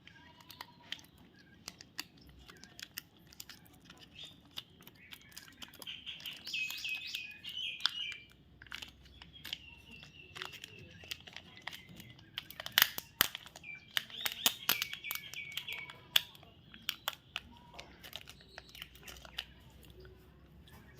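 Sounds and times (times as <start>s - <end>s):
wrappers crinkling and clicking: 0.0s - 20.1s
bird chirping: 0.0s - 20.9s.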